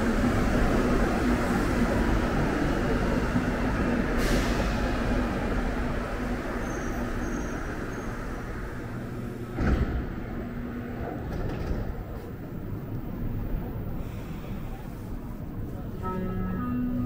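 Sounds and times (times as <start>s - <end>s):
metro train rumbling in tunnel: 0.0s - 17.0s.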